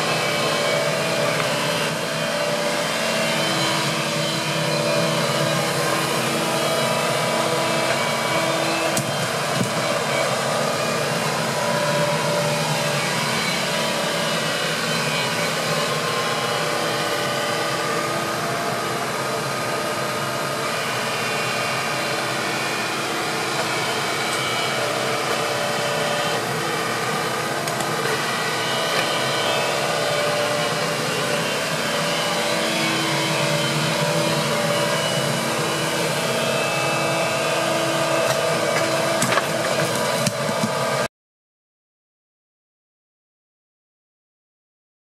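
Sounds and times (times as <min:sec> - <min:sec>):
excavator running: 0:00.0 - 0:41.1.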